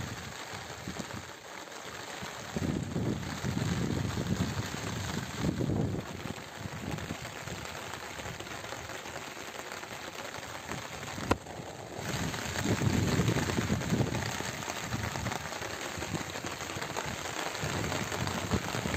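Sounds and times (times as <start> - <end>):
rain on leaves and floor: 0.0 - 18.9.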